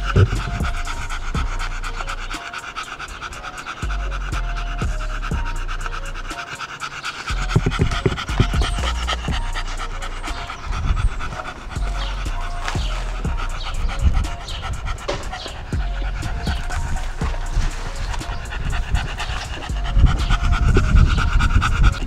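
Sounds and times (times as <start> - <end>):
background music: 0.0 - 22.0
dog panting fast: 0.0 - 22.0.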